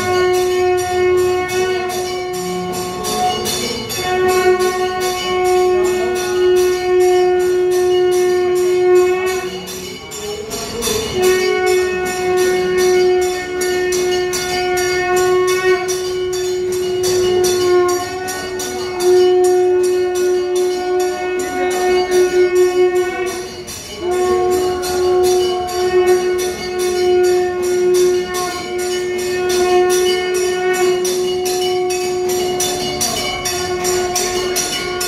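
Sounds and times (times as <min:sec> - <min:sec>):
jingling beat: 0:00.0 - 0:35.0
long held tone: 0:00.0 - 0:35.0.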